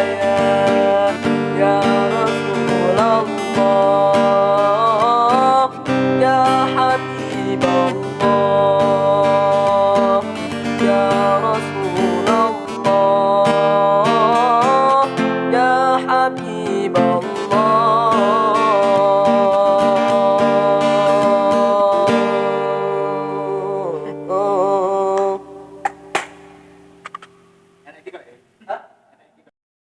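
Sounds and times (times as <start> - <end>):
wavering guitar melody: 0.0 - 27.9
acoustic guitar strumming chords: 0.0 - 28.0.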